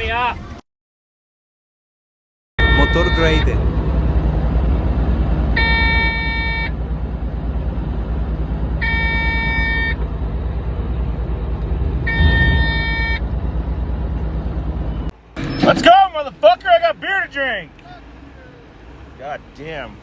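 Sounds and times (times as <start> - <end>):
diesel engine running: 2.6 - 20.0.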